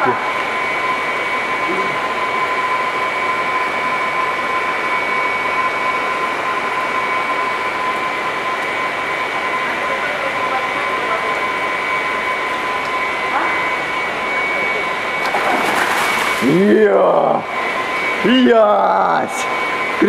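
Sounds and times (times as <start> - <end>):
high-pitched whine: 0.0 - 20.0
machinery droning: 0.0 - 20.0.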